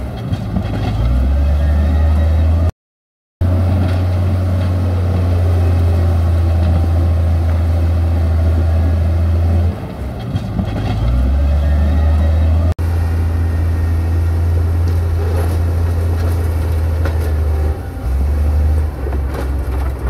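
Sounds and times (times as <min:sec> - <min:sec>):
heavy machinery diesel engine drone: 0:00.0 - 0:02.7, 0:03.4 - 0:20.0.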